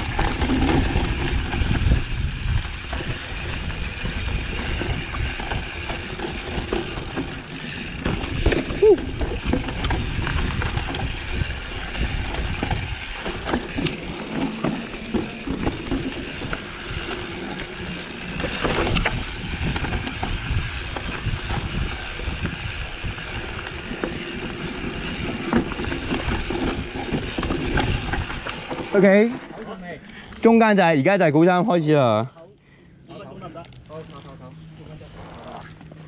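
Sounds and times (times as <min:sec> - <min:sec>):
bike rattling over rough ground: 0:00.0 - 0:31.4, 0:33.2 - 0:36.0.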